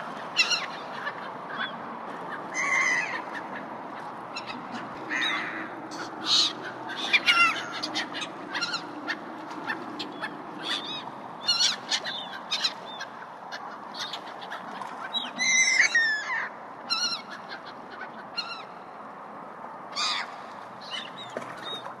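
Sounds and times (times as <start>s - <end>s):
gulls calling: 0.0s - 19.1s, 19.8s - 22.0s
steady background noise: 0.0s - 22.0s.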